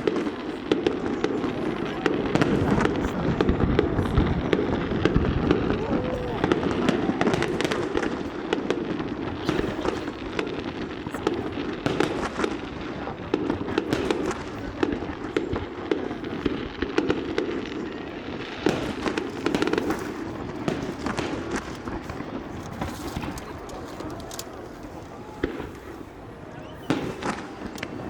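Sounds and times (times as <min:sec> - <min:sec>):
fireworks crackling and banging: 0:00.0 - 0:28.0.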